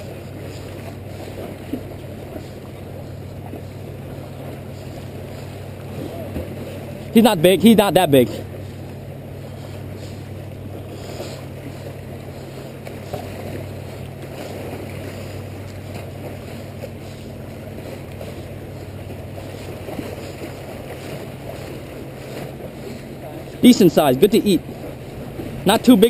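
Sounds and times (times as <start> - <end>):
steady low drone: 0.0 - 26.0.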